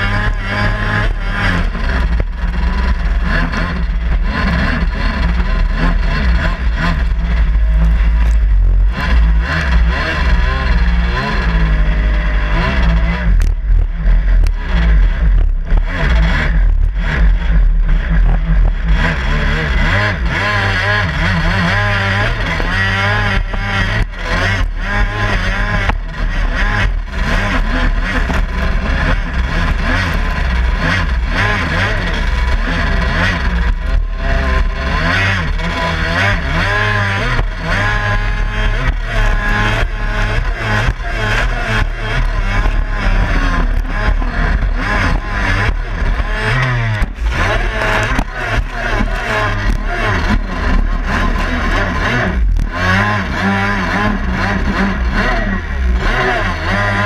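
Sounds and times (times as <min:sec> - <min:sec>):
jet ski engine revving: 0:00.0 - 0:57.0.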